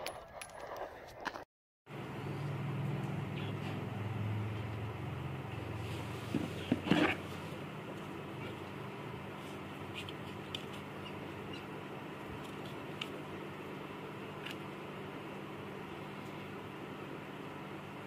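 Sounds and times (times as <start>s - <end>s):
steady low hum: 1.9s - 18.0s.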